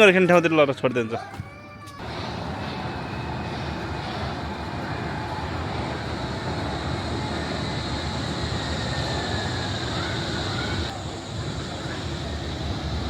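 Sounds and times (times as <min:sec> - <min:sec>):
faint high whine: 0:02.0 - 0:13.0
suspension railway car rumble: 0:02.0 - 0:13.0.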